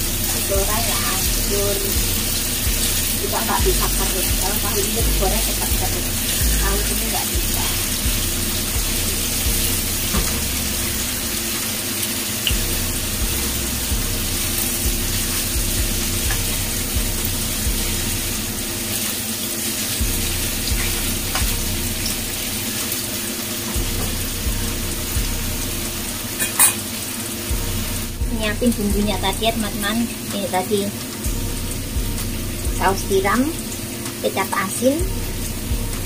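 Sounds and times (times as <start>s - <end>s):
tofu sizzling in oil: 0.0s - 28.8s, 29.6s - 36.0s.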